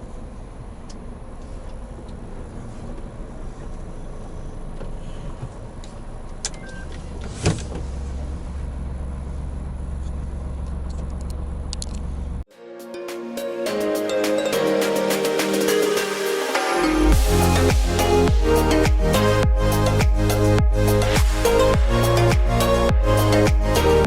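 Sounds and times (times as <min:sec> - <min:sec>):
truck engine rumbling: 0:00.0 - 0:12.5, 0:14.7 - 0:24.0.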